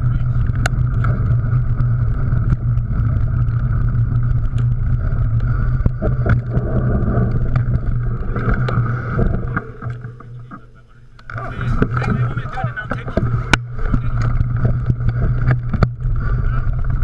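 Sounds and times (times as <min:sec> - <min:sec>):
bike clicks and rattles: 0:00.0 - 0:17.0
wind rumble on microphone: 0:00.0 - 0:17.0.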